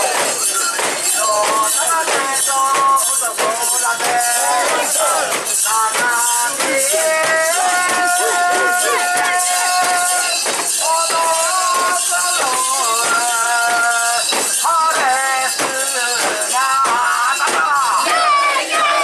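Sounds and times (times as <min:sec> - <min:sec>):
sharp metallic jingling: 0:00.0 - 0:18.8.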